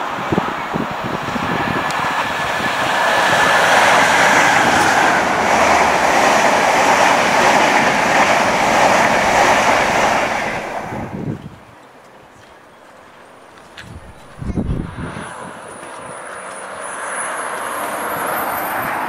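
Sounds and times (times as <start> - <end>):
passenger train passing at speed: 0.0 - 19.0.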